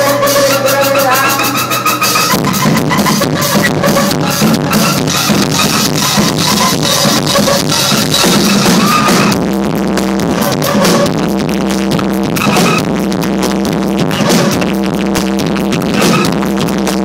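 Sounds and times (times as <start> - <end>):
live electronic cumbia music: 0.0 - 17.0.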